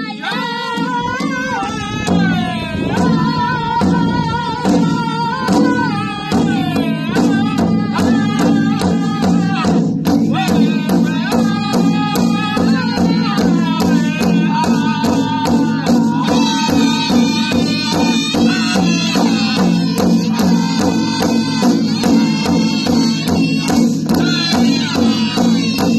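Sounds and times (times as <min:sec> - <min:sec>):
drum struck in steady beat: 0:00.0 - 0:25.9
group of voices singing: 0:00.0 - 0:25.9.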